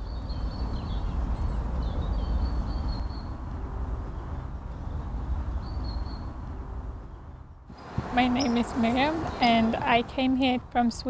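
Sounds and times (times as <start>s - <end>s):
birds chirping: 0.0s - 3.4s, 4.0s - 11.0s
steady low rumble: 0.0s - 10.9s.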